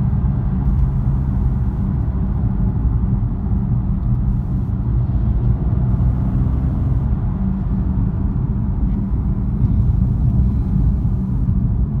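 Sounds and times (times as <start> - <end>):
car engine low rumble: 0.0 - 12.0
road noise: 0.0 - 12.0.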